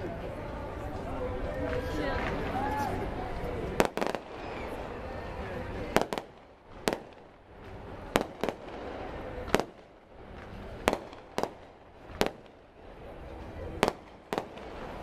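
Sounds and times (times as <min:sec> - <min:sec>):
fireworks bursting: 0:01.6 - 0:15.0.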